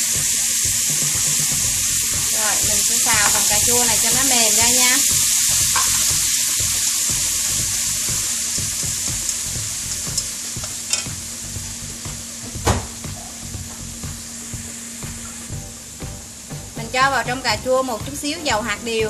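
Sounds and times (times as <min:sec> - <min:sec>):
tomato sizzling in hot oil: 0:00.0 - 0:19.0.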